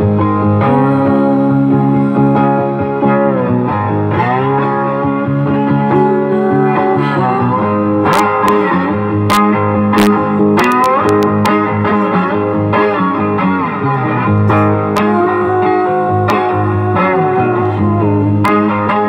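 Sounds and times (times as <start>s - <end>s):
electric guitar through amplifier: 0.0s - 19.0s.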